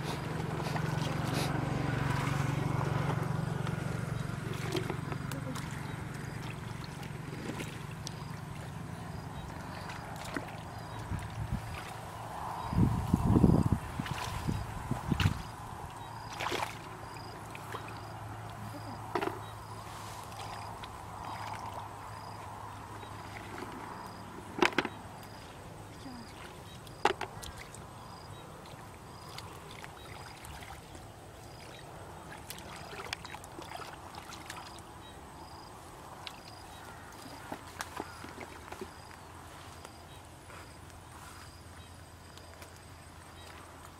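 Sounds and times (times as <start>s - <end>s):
water sloshing and splashing: 0.0s - 12.7s, 13.6s - 40.0s.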